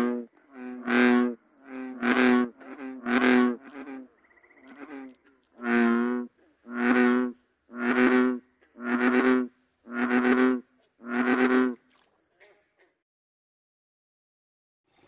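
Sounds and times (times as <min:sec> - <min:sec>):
bullfrog croaking: 0:00.0 - 0:12.6.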